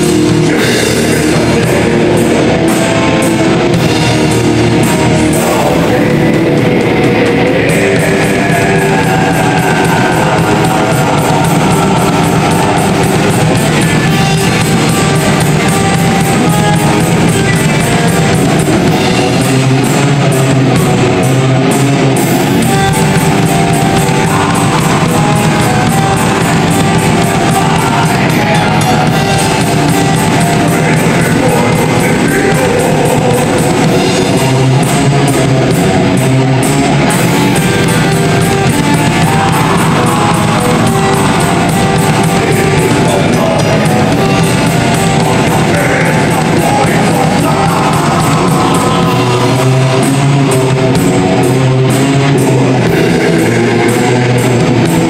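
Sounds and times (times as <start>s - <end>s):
distorted electric guitars and bass: 0.0s - 55.0s
fast drumming: 0.0s - 55.0s
rapid cymbal hits: 0.0s - 55.0s.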